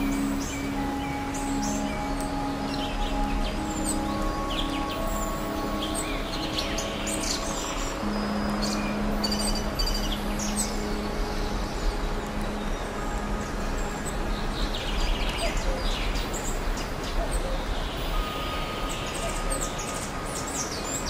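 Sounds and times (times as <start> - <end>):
songbirds chirping and singing: 0.0 - 21.0.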